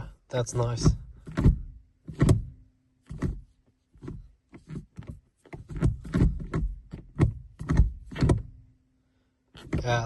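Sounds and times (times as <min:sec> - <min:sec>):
gear lever clunks and clicks: 0:00.4 - 0:08.6, 0:09.5 - 0:10.0.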